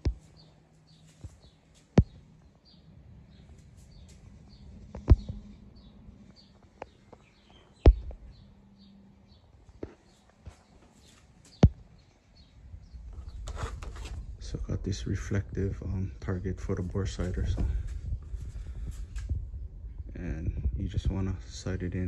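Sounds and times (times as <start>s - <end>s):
bird chirping: 0.0s - 19.1s.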